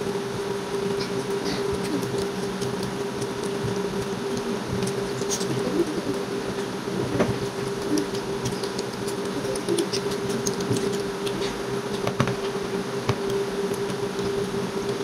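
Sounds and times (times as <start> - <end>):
steady hum: 0.0 - 15.0
chewing and eating clicks: 1.0 - 6.8, 7.4 - 15.0.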